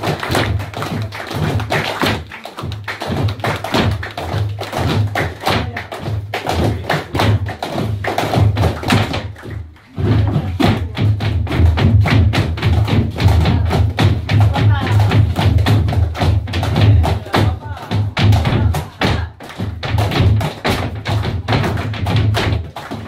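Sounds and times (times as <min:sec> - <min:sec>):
people clapping in rhythm: 0:00.0 - 0:23.0.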